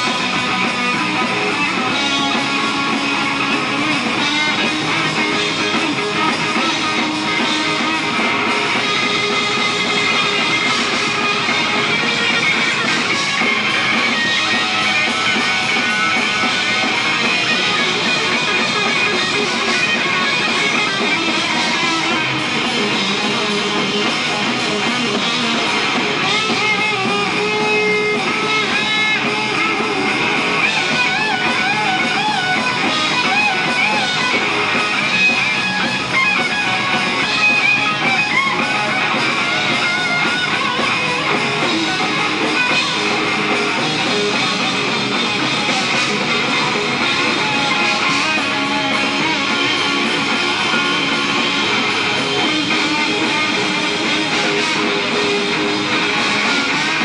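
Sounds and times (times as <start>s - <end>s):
lead guitar with bending pitch: 0.0s - 57.0s
rock band playing live: 0.0s - 57.0s.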